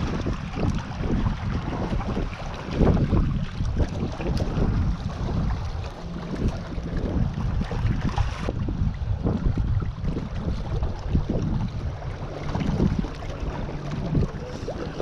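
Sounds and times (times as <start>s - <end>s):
water lapping against rocks: 0.0s - 15.0s
wind buffeting microphone: 0.0s - 15.0s.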